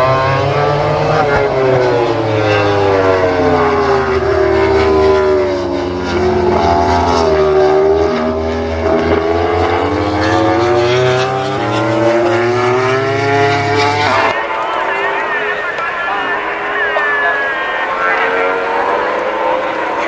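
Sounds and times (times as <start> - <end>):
racing motorcycle engines: 0.0 - 20.0.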